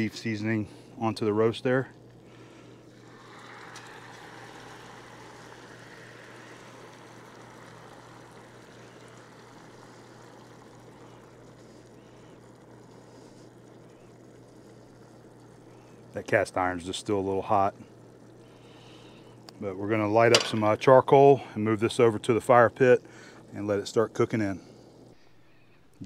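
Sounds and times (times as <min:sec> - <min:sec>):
steady low hum: 0:00.0 - 0:26.0
gravy sizzling in hot pot: 0:02.0 - 0:25.1.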